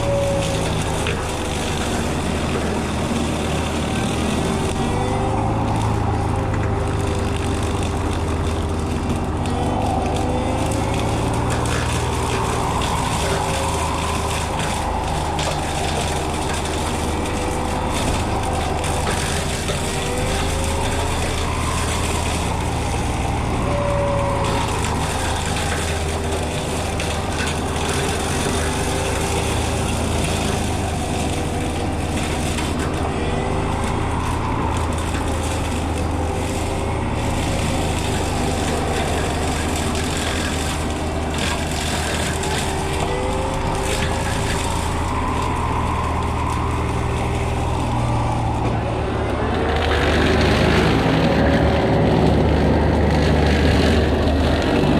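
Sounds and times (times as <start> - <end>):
excavator diesel engine running: 0.0 - 54.9
hydraulic brush cutter whine: 0.0 - 54.9.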